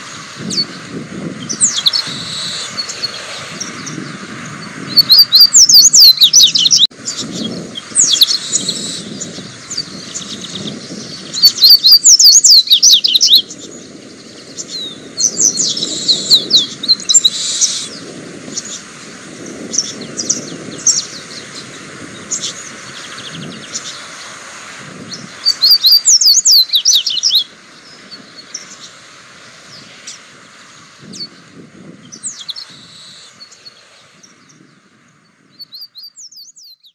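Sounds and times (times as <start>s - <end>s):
bird twittering song: 0.4s - 24.4s, 25.0s - 36.9s.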